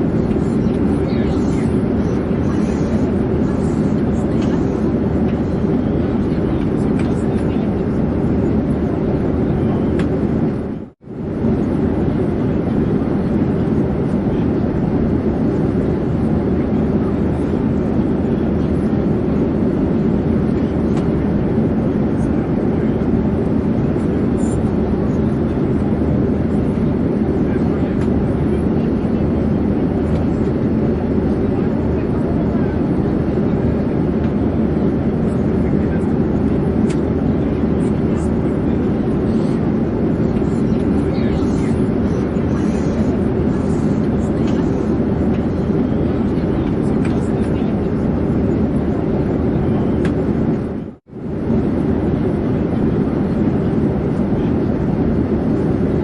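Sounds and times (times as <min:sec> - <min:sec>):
airplane engines and rushing air: 0:00.0 - 0:56.0.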